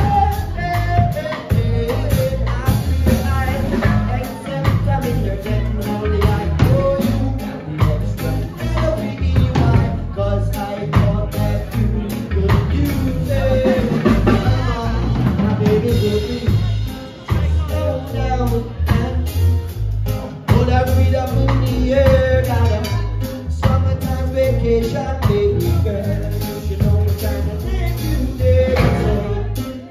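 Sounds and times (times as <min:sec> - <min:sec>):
drum kit beat: 0:00.0 - 0:29.9
live band playing: 0:00.0 - 0:29.9.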